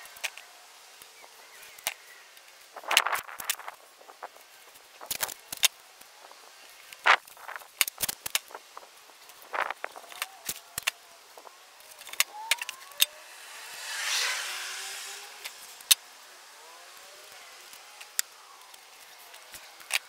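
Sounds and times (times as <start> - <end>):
whooshing hiss: 0.0 - 19.9
masking tape tearing and crackling: 1.7 - 20.0.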